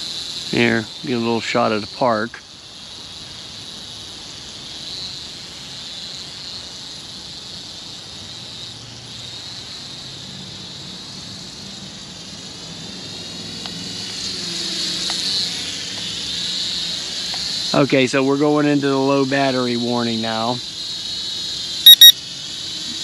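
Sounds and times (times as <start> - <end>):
mini drone propellers whining: 0.0 - 23.0.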